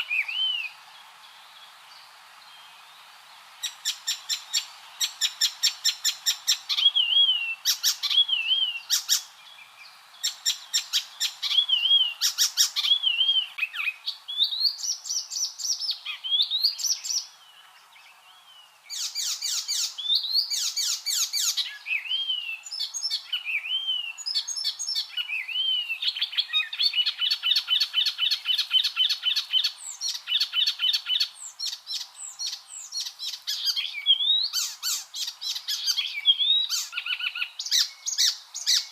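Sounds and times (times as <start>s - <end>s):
warbler singing: 0.0s - 38.9s.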